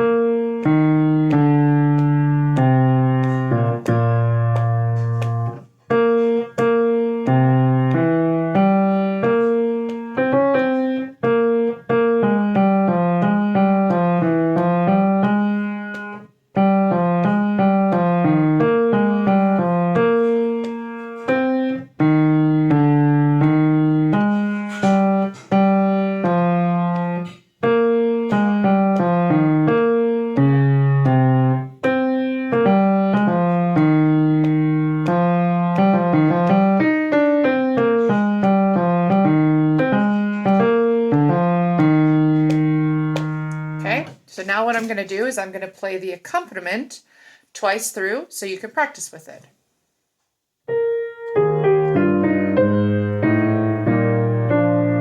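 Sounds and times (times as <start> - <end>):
slow piano melody: 0.0 - 44.0, 50.6 - 55.0.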